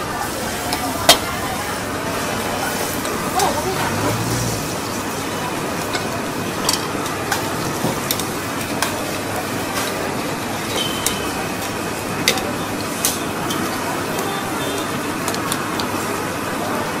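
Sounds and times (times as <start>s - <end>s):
frying in metal pan: 0.0s - 17.0s.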